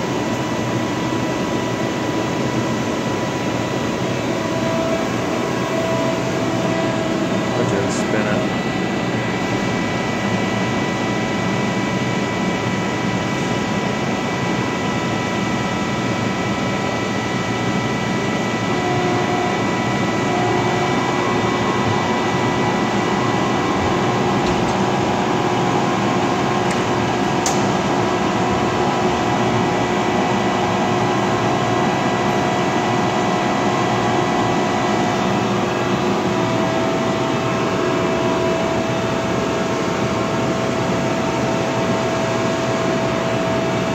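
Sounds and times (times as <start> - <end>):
machine whining tones: 0.0 - 13.6, 14.2 - 43.9
boring mill machine hum: 0.0 - 43.9.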